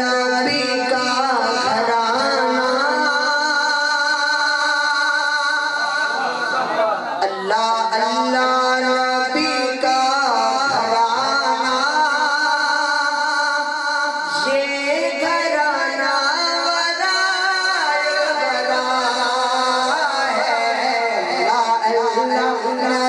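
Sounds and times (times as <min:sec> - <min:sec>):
man singing through microphone: 0:00.0 - 0:23.0.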